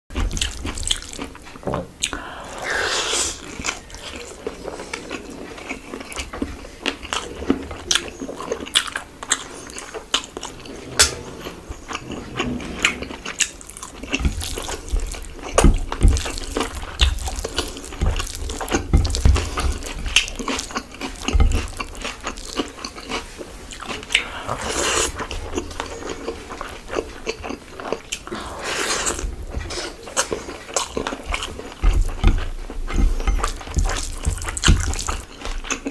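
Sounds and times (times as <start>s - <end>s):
chewing with wet mouth clicks: 0.1s - 2.3s, 3.3s - 10.5s, 13.2s - 35.9s.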